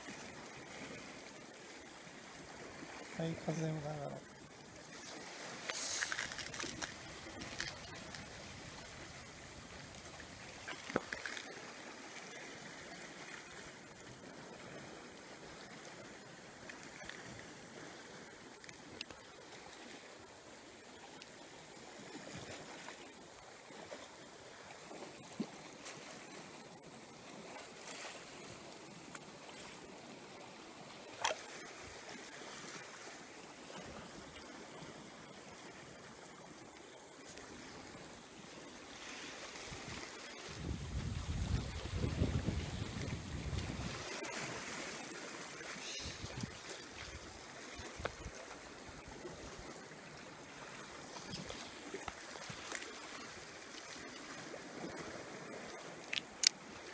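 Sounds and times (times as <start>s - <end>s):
sea water washing on shore: 0.0s - 56.9s
wind: 0.0s - 56.9s.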